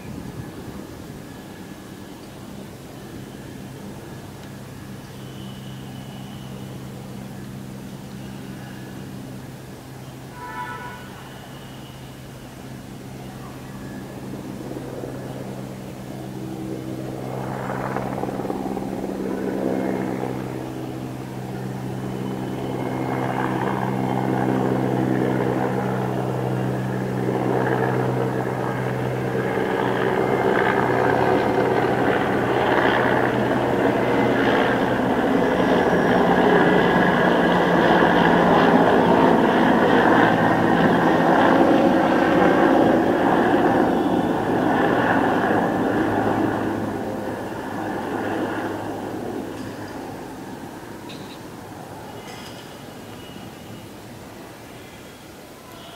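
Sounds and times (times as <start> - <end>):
helicopter flying over: 0.0 - 54.9.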